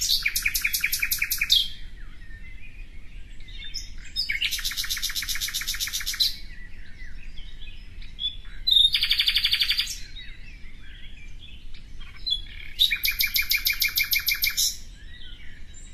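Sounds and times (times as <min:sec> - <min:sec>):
loud rapid bird trills: 0:00.0 - 0:15.9
soft bird chirps: 0:00.0 - 0:15.9.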